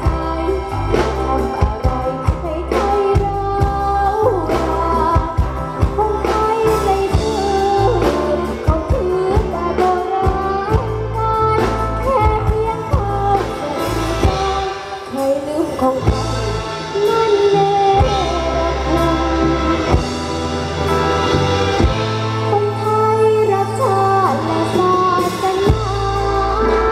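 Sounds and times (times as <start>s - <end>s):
band song over a pa system: 0.0s - 26.9s
person singing: 0.0s - 26.9s.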